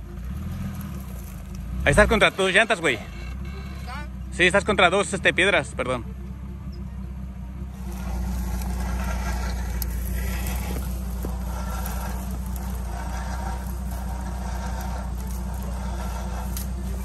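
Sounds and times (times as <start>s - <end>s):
truck engine running at low speed: 0.0s - 17.0s.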